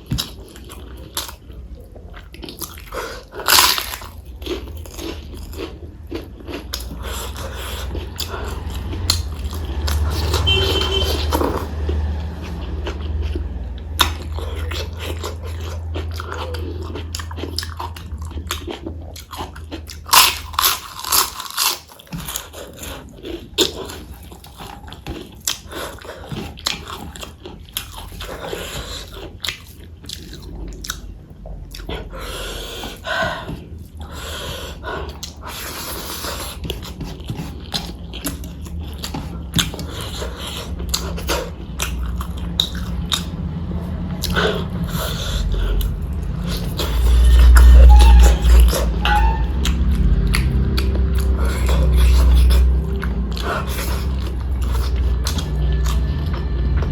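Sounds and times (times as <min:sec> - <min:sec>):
chewing and biting food: 0:00.0 - 0:56.9
steady low hum: 0:00.0 - 0:56.9.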